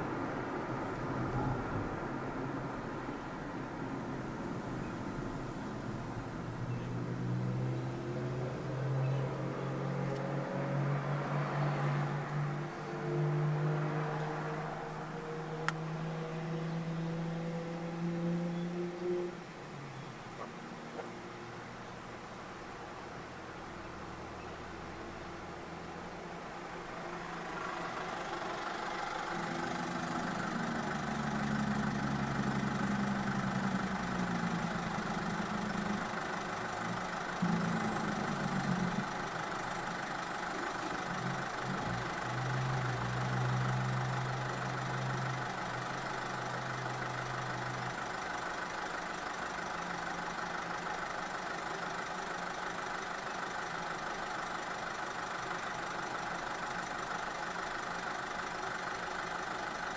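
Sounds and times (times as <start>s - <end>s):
car engine: 0.0s - 59.9s.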